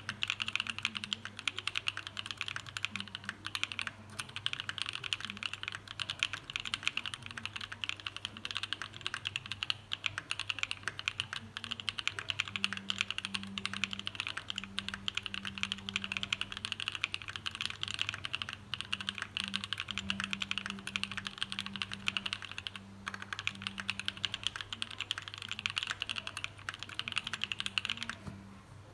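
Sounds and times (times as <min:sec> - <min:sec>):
mechanical keyboard typing: 0:00.0 - 0:28.4.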